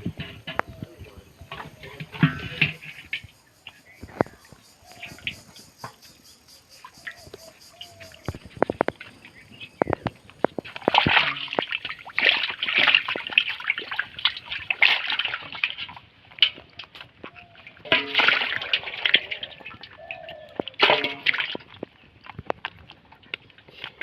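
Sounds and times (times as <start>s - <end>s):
shallow water sloshing and splashing: 0.0s - 6.1s, 6.8s - 24.0s.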